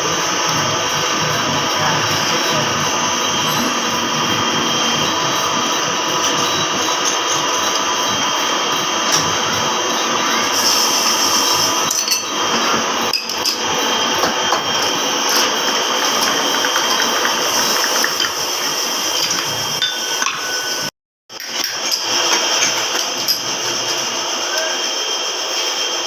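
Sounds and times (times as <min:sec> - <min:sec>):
machine whining: 0:00.0 - 0:26.0.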